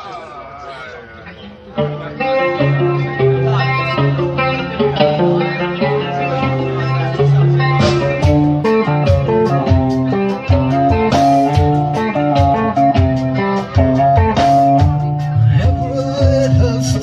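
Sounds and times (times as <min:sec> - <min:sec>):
live band instrumental music: 0:00.0 - 0:17.0.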